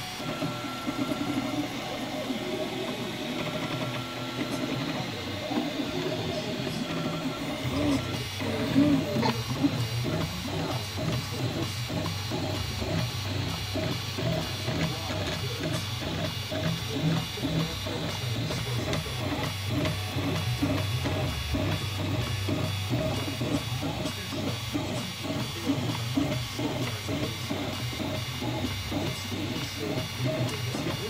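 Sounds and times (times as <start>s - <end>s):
stepper motors whining: 0.0s - 31.0s.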